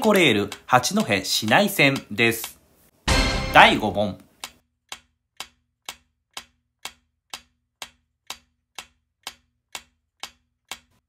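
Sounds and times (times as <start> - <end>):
clock-like timer ticks: 0.0 - 11.0.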